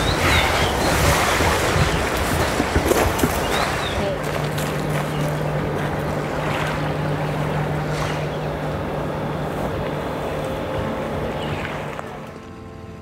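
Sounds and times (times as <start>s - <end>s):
wind on microphone: 0.0s - 12.0s
small waves lapping: 0.0s - 12.8s
low hum: 0.0s - 13.0s.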